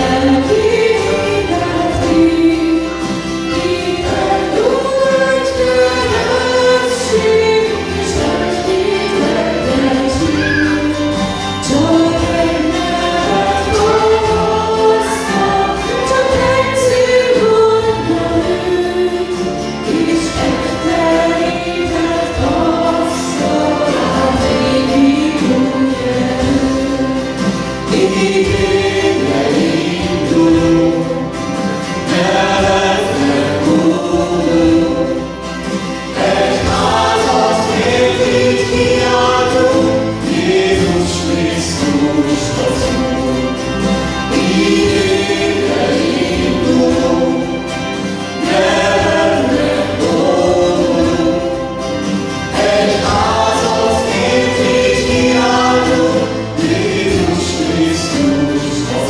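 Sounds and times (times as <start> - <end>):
bass guitar: 0.0 - 59.0
strummed acoustic guitar: 0.0 - 59.0
women singing together: 0.0 - 59.0.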